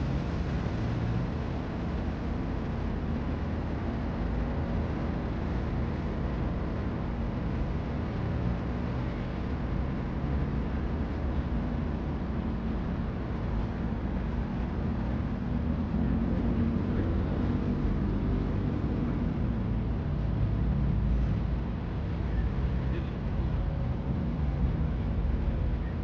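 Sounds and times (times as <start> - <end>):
city street traffic rumble: 0.0 - 26.0.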